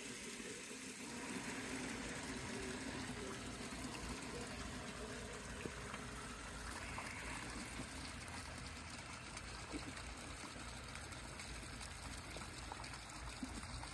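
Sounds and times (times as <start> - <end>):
fountain splashing into water: 0.0 - 13.9.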